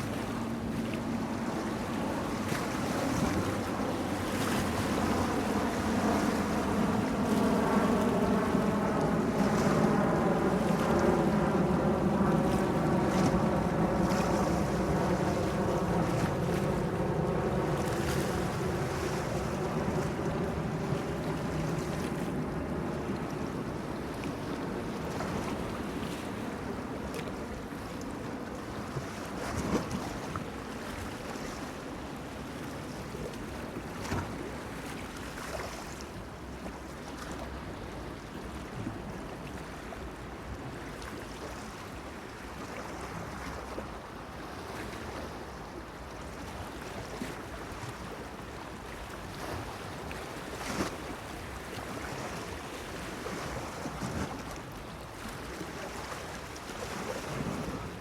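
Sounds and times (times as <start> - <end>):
small waves lapping against a pier: 0.0 - 58.0
wind: 0.0 - 58.0.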